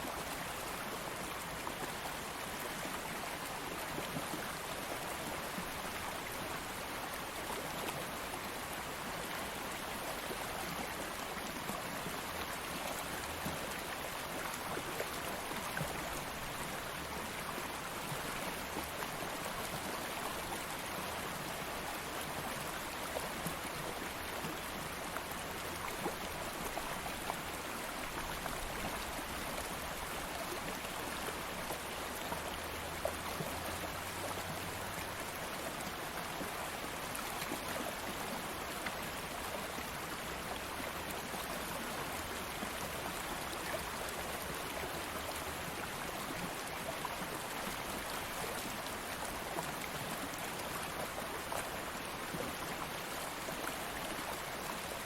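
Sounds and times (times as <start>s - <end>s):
flowing stream water: 0.0s - 55.0s.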